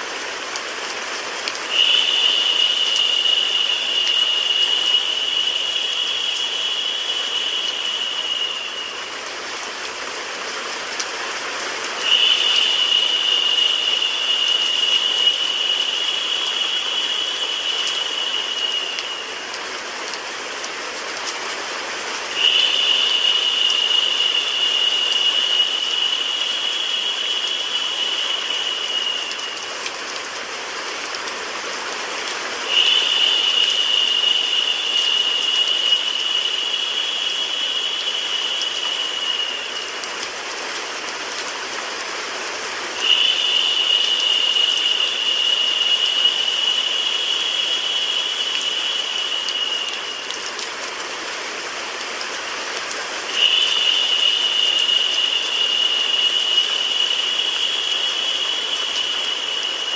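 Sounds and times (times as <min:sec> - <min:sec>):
steady rain: 0:00.0 - 0:59.9
high-pitched hiss: 0:00.6 - 0:59.9.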